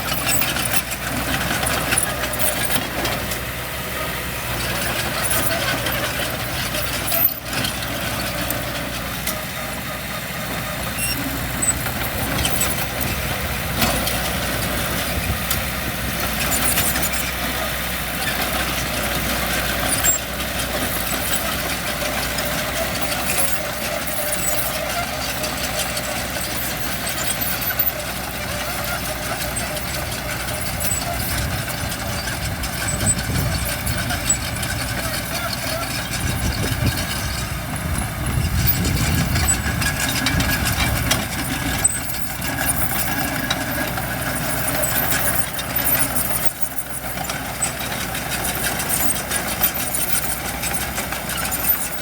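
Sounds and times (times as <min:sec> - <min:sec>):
heavy machinery diesel engine: 0:00.0 - 0:52.0.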